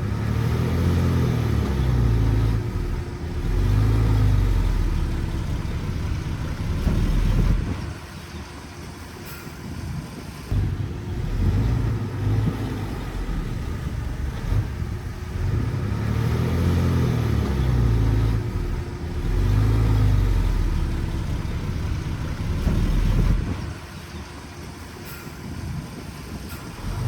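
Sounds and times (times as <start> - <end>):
heavy diesel engine under load: 0.0 - 27.0.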